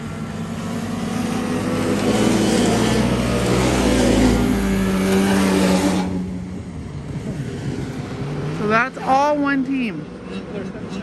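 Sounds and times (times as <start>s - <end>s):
snowmobile engines passing: 0.0s - 11.0s.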